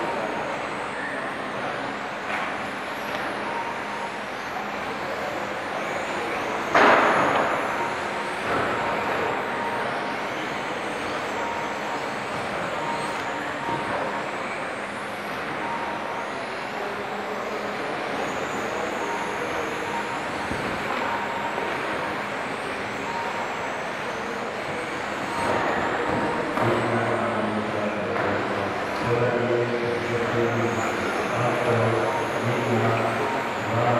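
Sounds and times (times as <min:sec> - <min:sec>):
rc car motors whining: 0:00.0 - 0:33.9.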